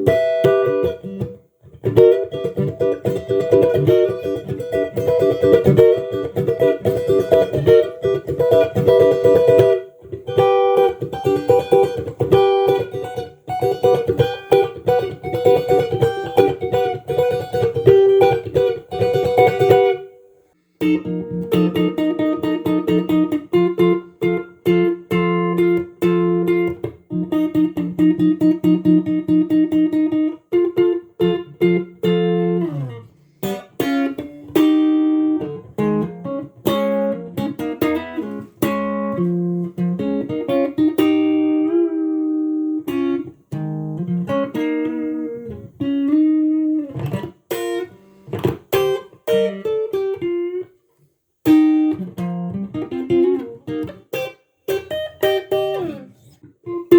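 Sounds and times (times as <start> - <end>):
electric guitar playing: 0.0 - 50.8, 51.4 - 56.9.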